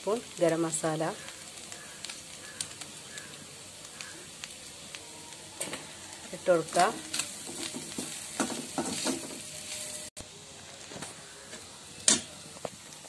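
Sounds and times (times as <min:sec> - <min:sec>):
light sizzle: 0:00.0 - 0:13.0.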